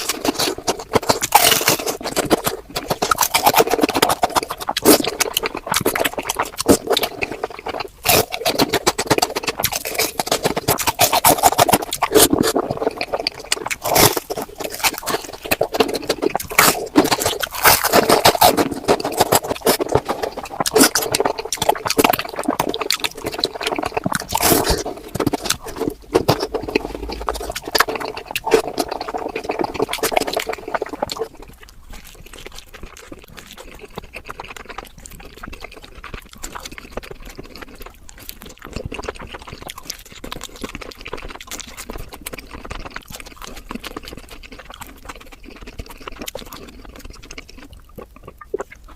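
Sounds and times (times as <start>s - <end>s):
sped-up crunching and chewing: 0.0s - 48.9s.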